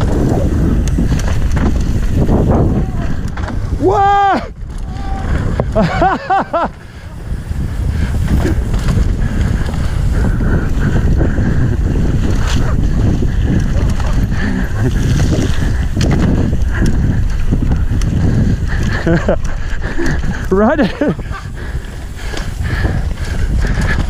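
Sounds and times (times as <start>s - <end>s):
bike clicks and knocks: 0.0s - 6.8s, 8.0s - 10.2s, 10.8s - 24.0s
tyres rumbling on dirt trail: 0.0s - 24.0s
wind buffeting microphone: 0.0s - 24.0s.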